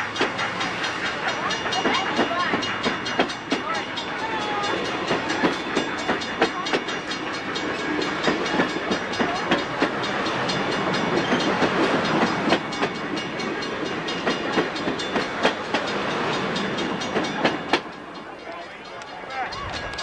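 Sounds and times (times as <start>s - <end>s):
train rolling rumble: 0.0s - 20.0s
train wheels clicking over rail joints: 0.0s - 20.0s.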